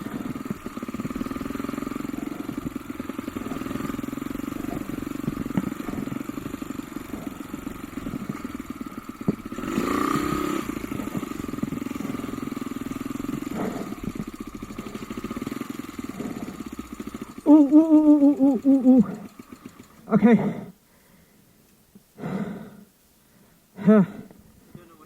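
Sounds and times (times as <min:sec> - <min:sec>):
motorcycle engine idling and revving: 0:00.0 - 0:20.8.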